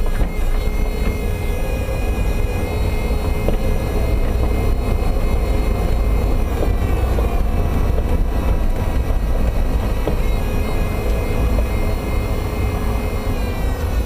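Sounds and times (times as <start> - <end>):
suspension knocks: 0.0 - 13.4
power steering pump whine: 0.0 - 14.0
road and drivetrain rumble: 0.0 - 14.0.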